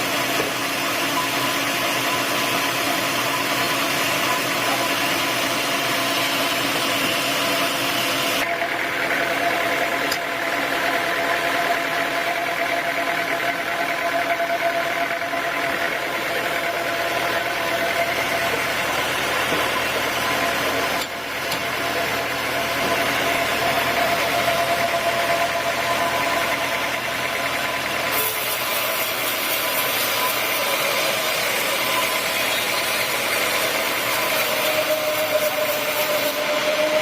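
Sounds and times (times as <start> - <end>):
sawmill machinery humming: 0.0 - 37.0.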